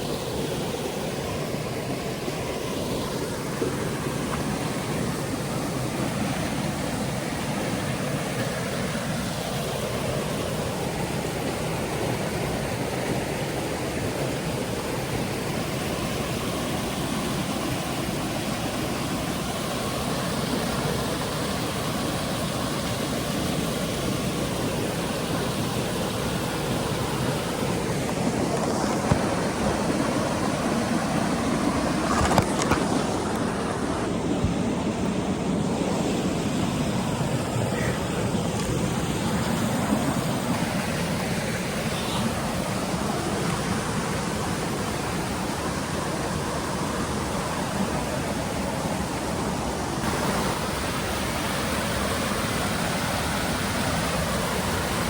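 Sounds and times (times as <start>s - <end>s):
rushing water roar: 0.0s - 55.0s.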